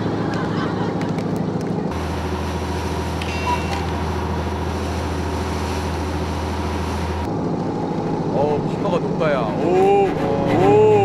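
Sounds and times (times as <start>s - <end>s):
boat engine droning: 0.0s - 11.0s
sea noise: 0.0s - 11.0s
wind: 0.0s - 11.0s.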